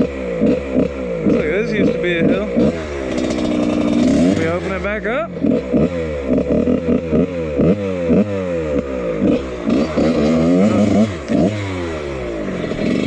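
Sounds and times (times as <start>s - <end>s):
motorcycle engine throttle blips: 0.0s - 13.0s.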